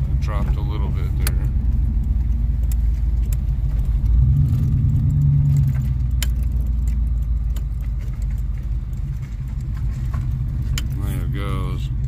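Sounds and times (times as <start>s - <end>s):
light clicks and rattles: 0.0s - 12.0s
pickup engine rumble from inside cab: 0.0s - 12.0s.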